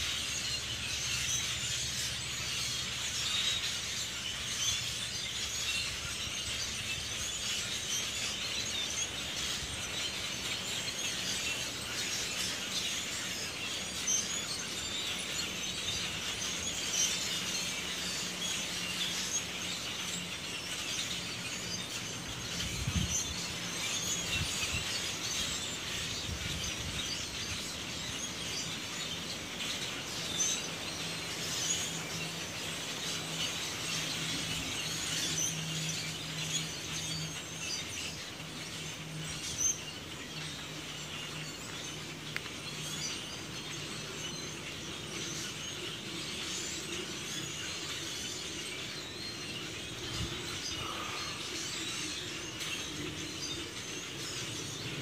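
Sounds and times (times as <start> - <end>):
blackbirds chirping: 0.0 - 55.0.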